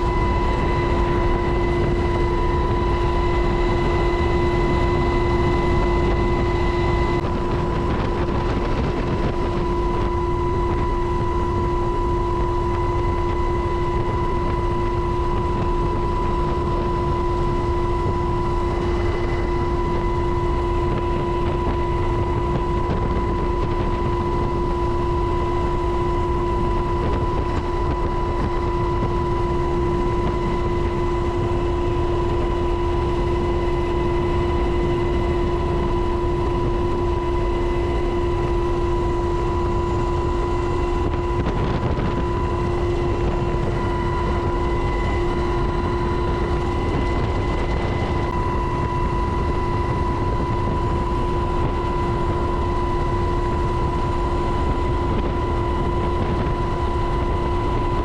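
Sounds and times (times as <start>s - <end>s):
helicopter engines and rotors: 0.0s - 58.0s
high whine: 0.0s - 58.0s
rush of wind: 0.0s - 58.0s.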